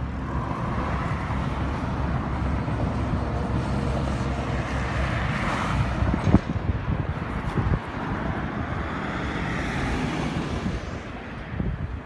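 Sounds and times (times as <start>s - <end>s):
highway traffic passing: 0.0s - 12.0s.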